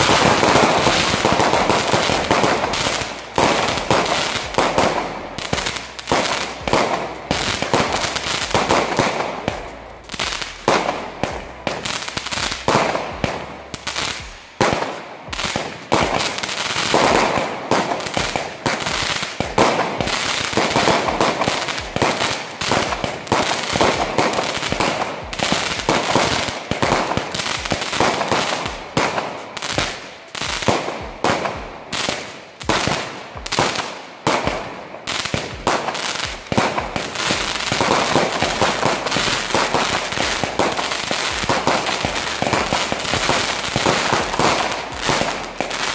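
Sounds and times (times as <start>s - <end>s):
firework launch shots and bursts: 0.0s - 45.9s.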